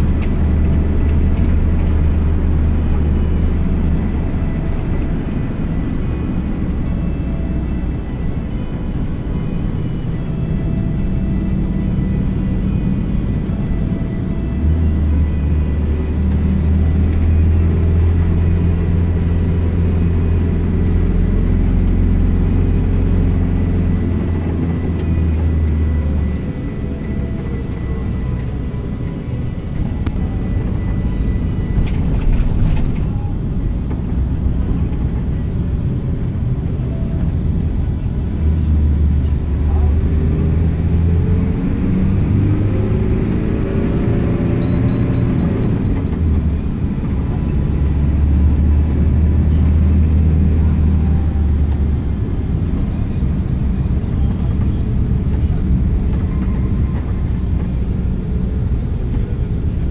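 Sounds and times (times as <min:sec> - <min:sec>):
diesel engine droning: 0:00.0 - 0:59.9
road noise: 0:00.0 - 0:59.9.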